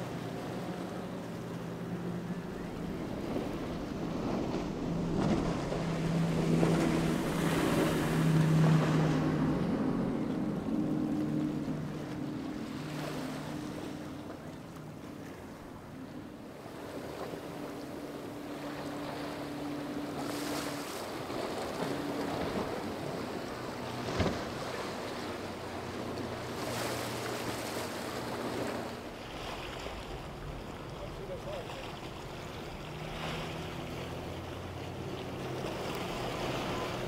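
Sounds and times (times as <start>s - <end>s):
boat engine drone: 0.0s - 37.0s.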